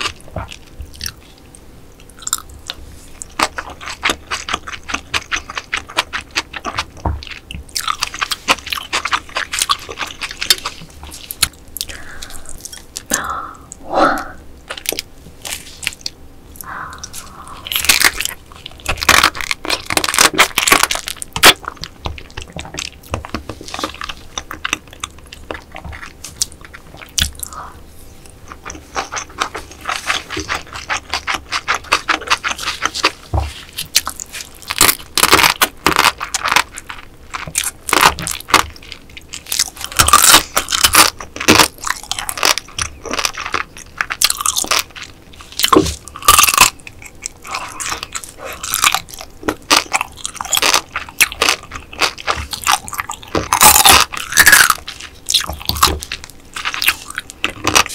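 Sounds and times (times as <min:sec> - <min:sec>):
crunching crab shell: 0:00.0 - 0:13.3, 0:14.7 - 0:57.9
wet chewing: 0:00.0 - 0:57.9.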